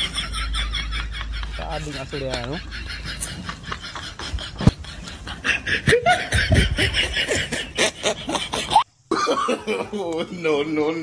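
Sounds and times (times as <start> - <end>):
people snickering and laughing: 0.0 - 11.0.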